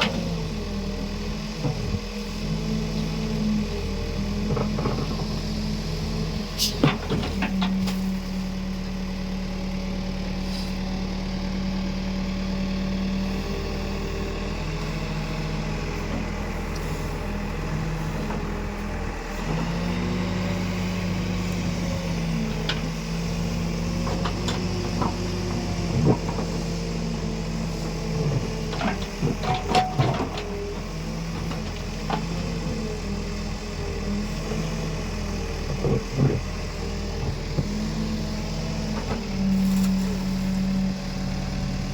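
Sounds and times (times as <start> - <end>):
diesel engine under changing load: 0.0 - 41.9.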